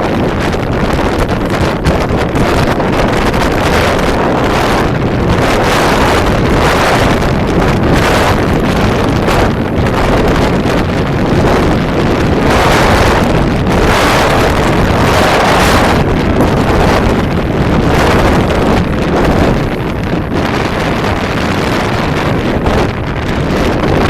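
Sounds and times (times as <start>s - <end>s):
motorboat rushing noise: 0.0s - 24.0s
wind buffeting microphone: 0.0s - 24.0s.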